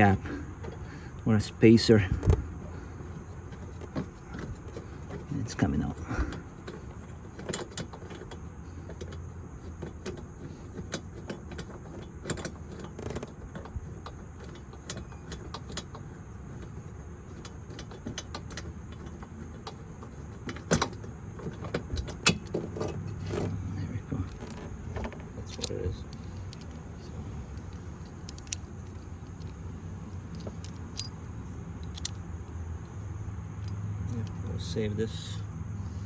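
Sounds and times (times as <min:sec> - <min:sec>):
steady low hum: 0:00.0 - 0:36.0
clicks and clinks of car parts: 0:02.0 - 0:34.5.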